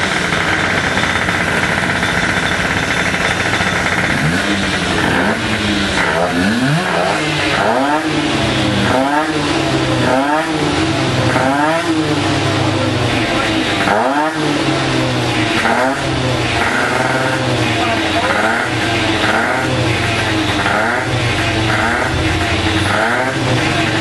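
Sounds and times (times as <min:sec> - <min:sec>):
motorcycle engine running: 0:00.0 - 0:24.0
motorcycle throttle blips: 0:00.0 - 0:24.0.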